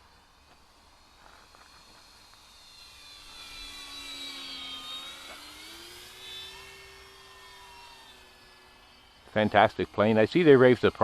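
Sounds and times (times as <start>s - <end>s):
model plane motor whining: 0.8s - 11.0s.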